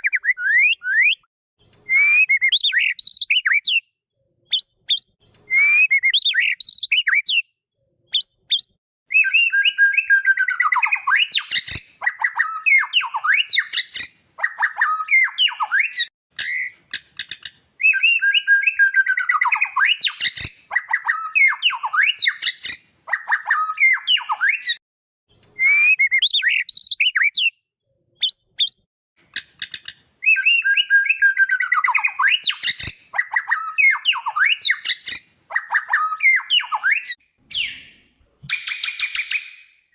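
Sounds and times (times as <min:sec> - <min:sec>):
bird whistling song: 0:00.0 - 0:03.9, 0:04.5 - 0:07.5, 0:08.1 - 0:24.8, 0:25.5 - 0:27.6, 0:28.2 - 0:39.9.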